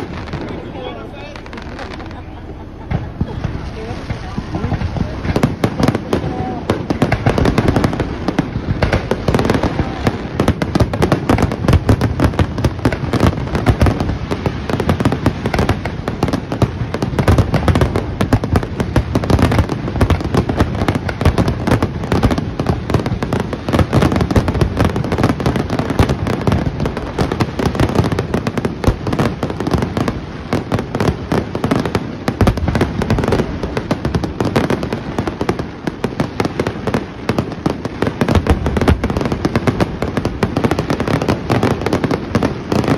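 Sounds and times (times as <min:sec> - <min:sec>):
fireworks bursting and crackling: 0:00.0 - 0:42.9.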